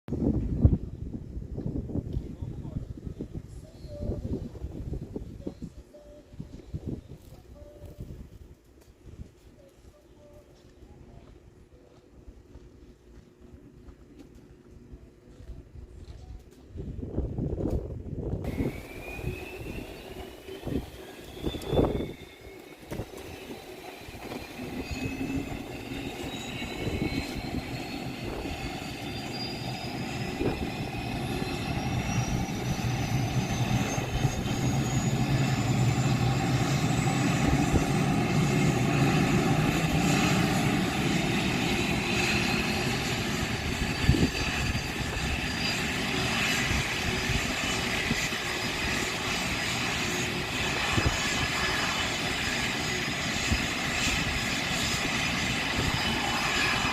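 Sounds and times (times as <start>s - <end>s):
jet engine whine spooling up: 0.2s - 16.1s, 16.8s - 56.9s.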